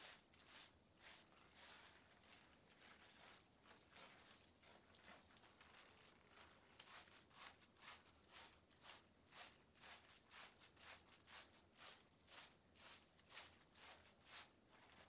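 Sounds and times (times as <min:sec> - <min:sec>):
fingers scrubbing lathered hair: 0:00.0 - 0:15.0.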